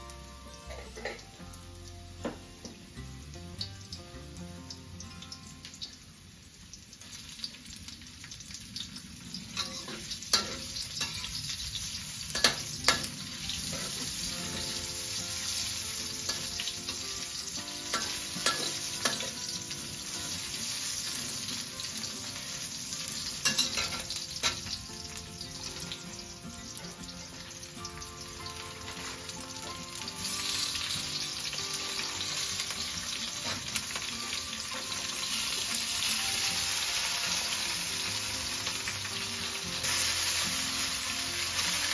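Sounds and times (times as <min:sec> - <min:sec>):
mushrooms sizzling in a wok: 0:00.0 - 0:41.9.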